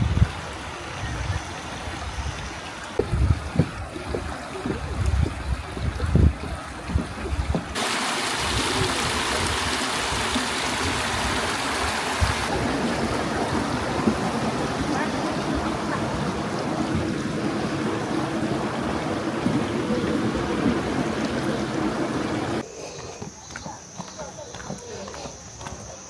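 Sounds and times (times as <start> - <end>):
running water rushing: 0.0 - 22.6.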